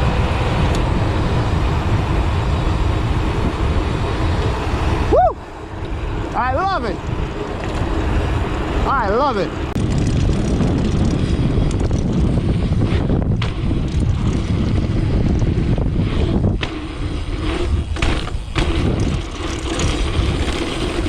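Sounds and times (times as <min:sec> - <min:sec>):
bike tyre noise: 0:00.0 - 0:21.0
wind over microphone: 0:00.0 - 0:21.0.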